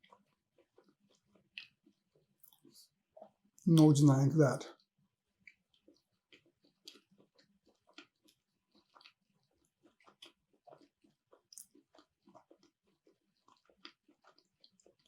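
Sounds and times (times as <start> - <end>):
chewing food: 0.0 - 3.9, 4.8 - 15.0.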